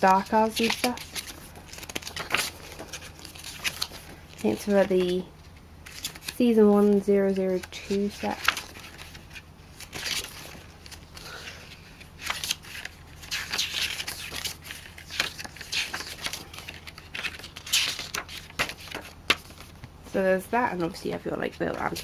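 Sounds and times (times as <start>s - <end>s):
paper pages being turned: 0.0s - 5.2s, 5.8s - 19.9s.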